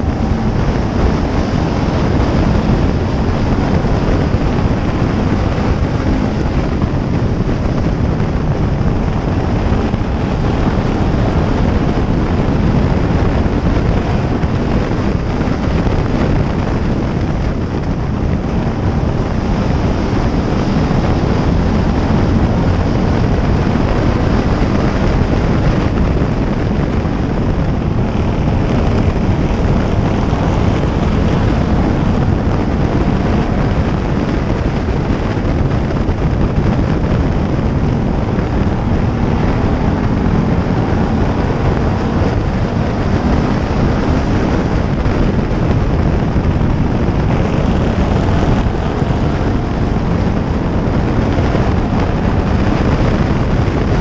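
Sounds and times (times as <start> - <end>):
race car engine running hard: 0.0 - 54.0
road noise: 0.0 - 54.0
wind noise: 0.0 - 54.0.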